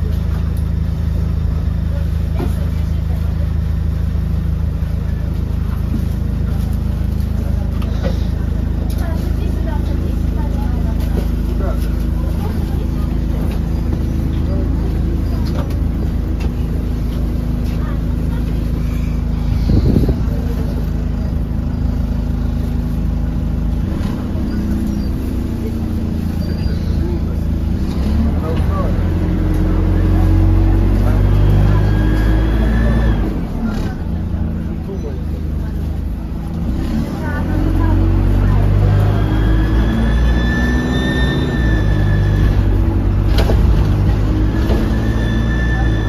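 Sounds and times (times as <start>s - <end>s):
bus diesel engine idling: 0.0s - 46.0s.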